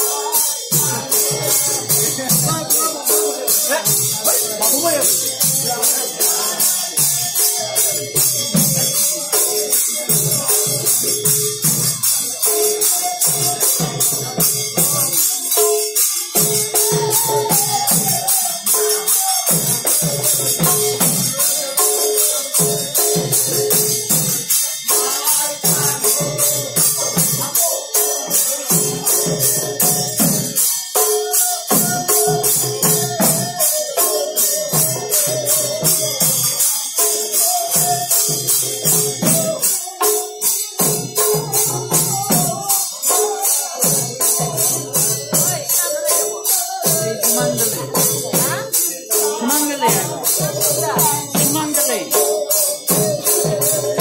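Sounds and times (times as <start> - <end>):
chanted singing: 0.0 - 54.0
drum strokes: 0.0 - 54.0
hand cymbals clashing: 0.0 - 54.0.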